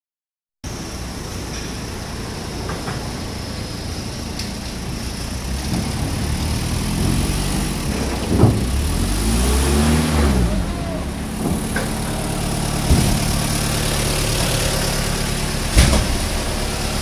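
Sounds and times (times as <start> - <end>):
forklift engine running: 0.7 - 17.0.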